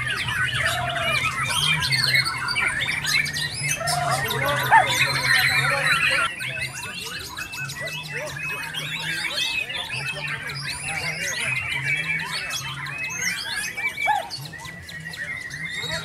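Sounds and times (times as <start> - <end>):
songbirds chorus: 0.0 - 16.0.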